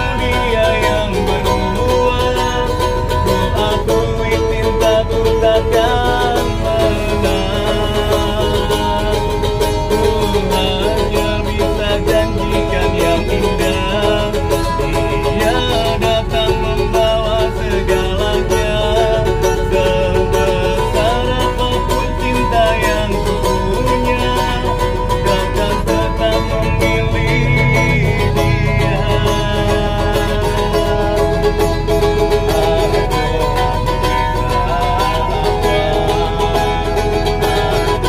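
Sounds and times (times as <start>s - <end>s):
lute strummed chords: 0.0s - 38.0s
man singing: 0.0s - 38.0s.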